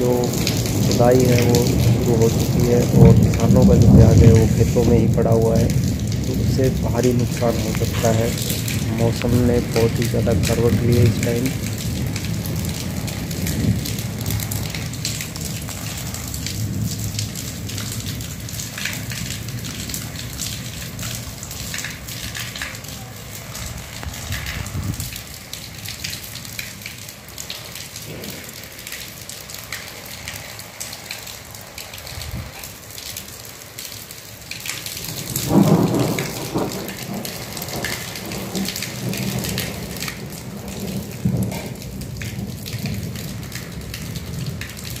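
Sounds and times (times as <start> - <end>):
low rumble of thunder: 0.0 - 26.6, 27.4 - 29.0, 34.6 - 45.0
rain pattering: 0.0 - 45.0.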